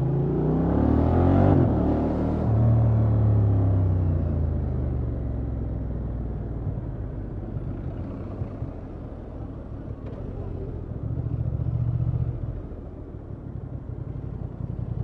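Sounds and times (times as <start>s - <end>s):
motorcycle engine rumble: 2.5s - 15.0s.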